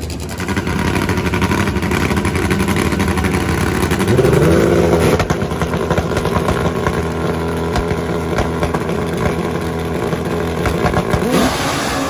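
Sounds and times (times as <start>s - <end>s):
motorcycle engines revving with crackle: 0.0s - 12.0s.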